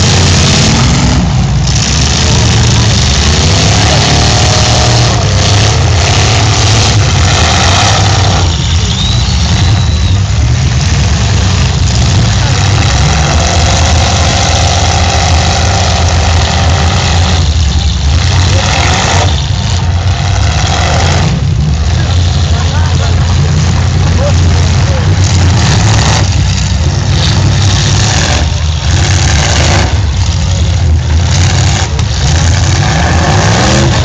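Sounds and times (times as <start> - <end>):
car engines running: 0.0 - 34.0
crowd voices: 0.0 - 34.0.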